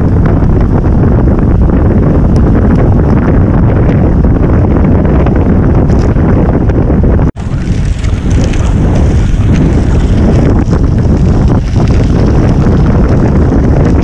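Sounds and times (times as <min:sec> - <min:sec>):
bike tyres on gravel: 0:00.0 - 0:06.4, 0:07.4 - 0:14.0
wind buffeting microphone: 0:00.0 - 0:14.0.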